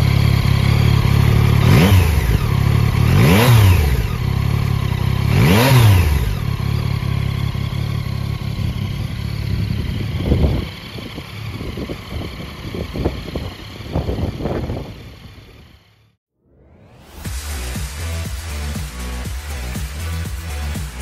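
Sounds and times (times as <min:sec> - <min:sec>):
motorcycle engine idling and revving: 0:00.0 - 0:16.2, 0:17.0 - 0:21.0.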